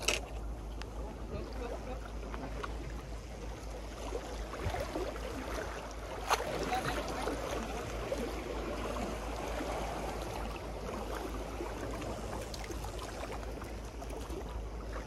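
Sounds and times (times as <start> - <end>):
sea water washing against embankment: 0.0 - 15.0.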